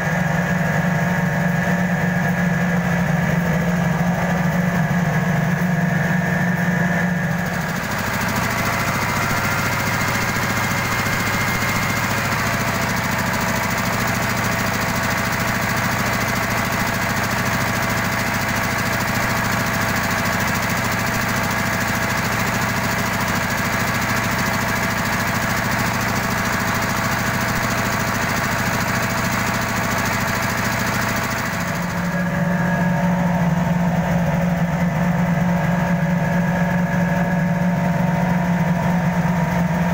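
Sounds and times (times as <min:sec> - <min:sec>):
rice mill machine humming: 0:00.0 - 0:39.9.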